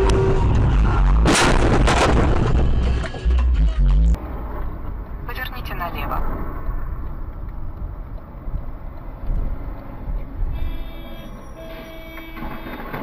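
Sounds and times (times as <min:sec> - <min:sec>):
vehicle rumbling on road: 0:00.0 - 0:13.0.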